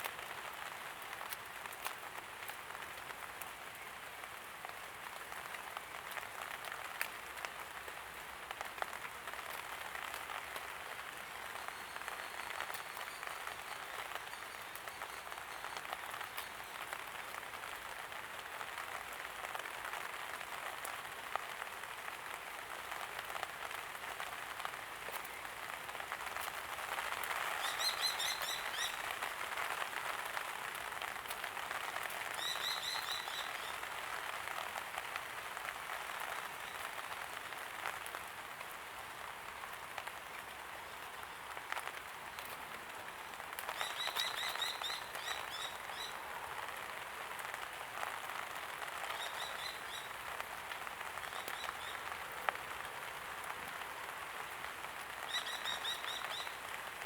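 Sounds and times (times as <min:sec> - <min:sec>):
light rain pattering: 0:00.0 - 0:57.0.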